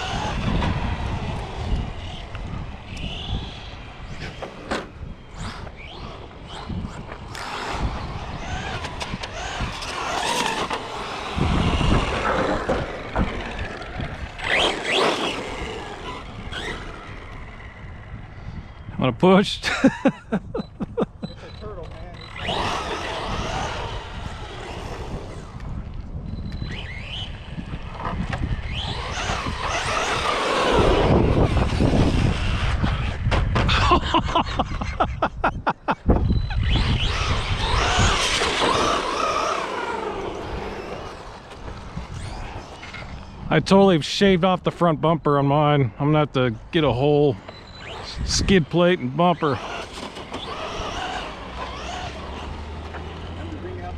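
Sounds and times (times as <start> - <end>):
electric motors whining: 0.0 - 19.0, 20.2 - 44.0, 47.1 - 53.9.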